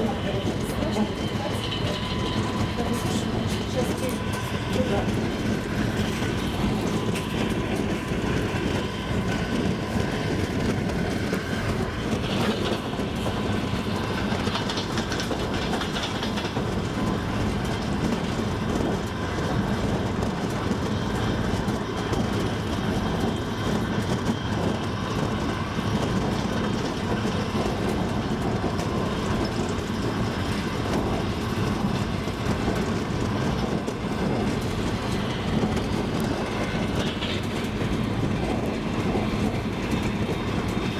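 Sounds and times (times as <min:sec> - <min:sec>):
train rumbling: 0:00.0 - 0:40.9
train wheels clattering on rails: 0:00.0 - 0:40.9.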